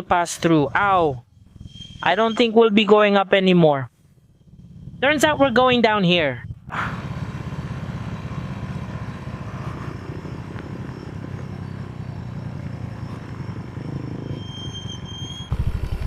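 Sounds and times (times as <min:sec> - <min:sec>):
motorcycle engine at low revs: 0:00.0 - 0:03.1, 0:03.9 - 0:16.0.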